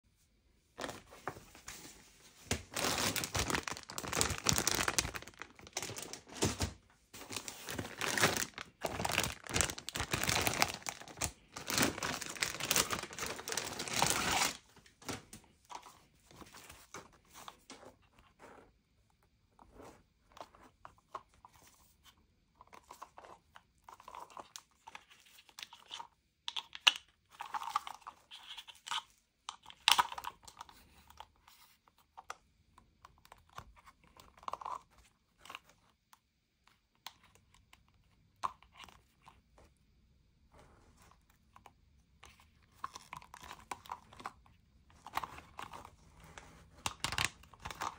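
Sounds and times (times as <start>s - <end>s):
crinkling and rustling: 0.6s - 26.2s, 26.8s - 47.9s.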